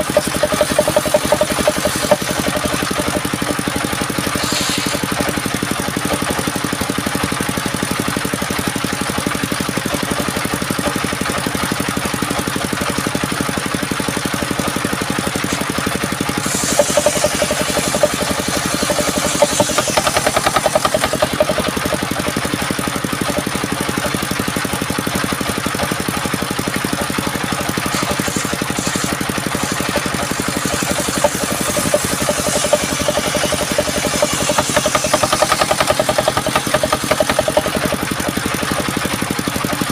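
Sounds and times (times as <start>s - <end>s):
sawmill machine running: 0.0s - 39.9s.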